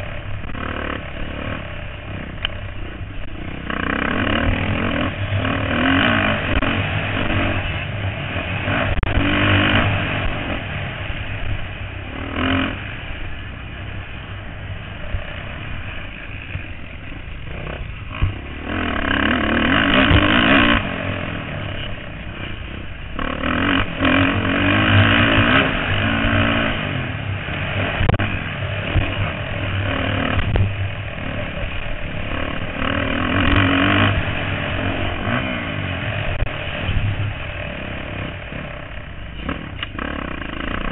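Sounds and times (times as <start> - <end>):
motocross bikes revving past: 0.0 - 40.9.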